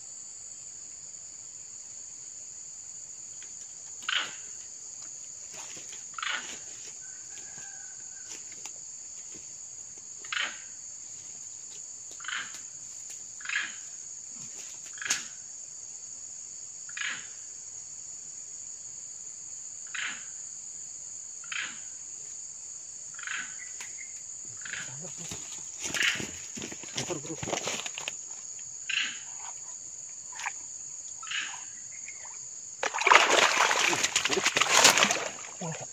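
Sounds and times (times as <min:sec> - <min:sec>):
insect chorus: 0:00.0 - 0:35.9.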